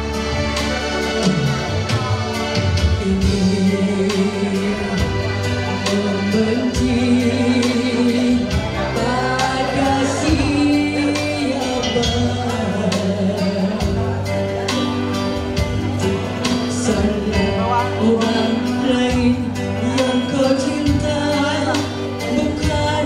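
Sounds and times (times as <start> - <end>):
instrumental accompaniment with beat: 0.0 - 23.0
woman singing pop song: 2.8 - 23.0.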